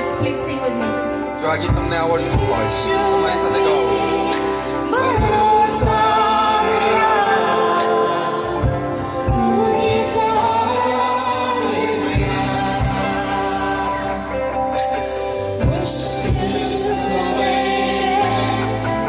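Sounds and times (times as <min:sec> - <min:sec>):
instrumental backing: 0:00.0 - 0:19.0
voices singing worship song: 0:00.0 - 0:19.0.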